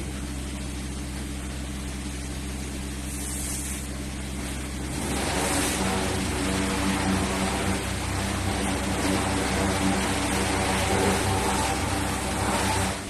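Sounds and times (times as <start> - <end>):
machine drone with low hum: 0.0 - 13.0.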